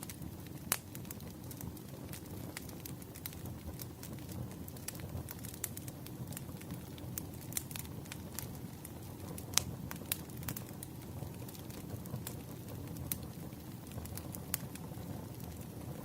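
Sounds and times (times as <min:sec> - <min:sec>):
campfire flames rumbling: 0:00.0 - 0:16.0
fire crackling and popping: 0:00.0 - 0:16.0.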